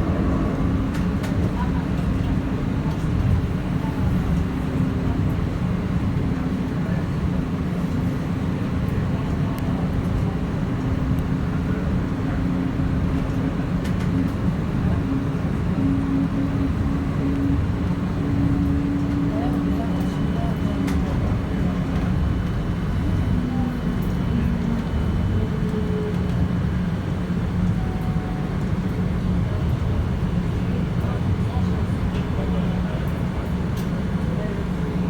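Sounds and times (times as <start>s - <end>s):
constant hum: 0.0s - 35.0s
tram running rumble: 0.0s - 35.0s.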